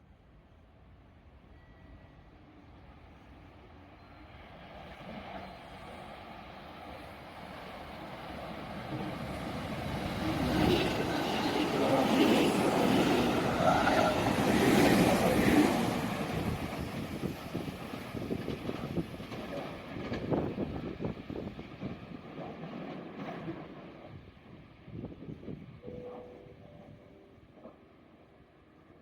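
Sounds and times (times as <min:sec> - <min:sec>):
train passing: 0:00.0 - 0:29.0.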